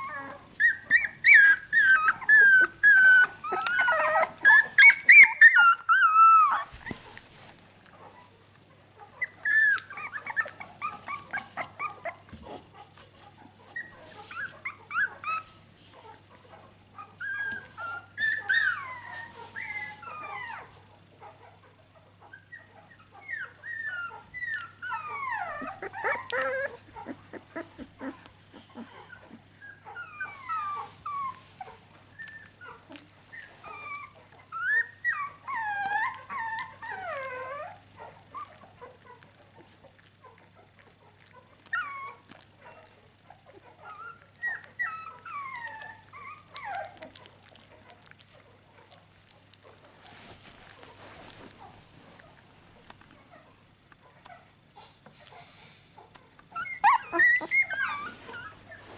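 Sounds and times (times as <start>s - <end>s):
puppies whining and squeaking: 0.0s - 7.4s, 9.2s - 12.7s, 13.3s - 16.2s, 17.0s - 20.9s, 22.1s - 58.9s.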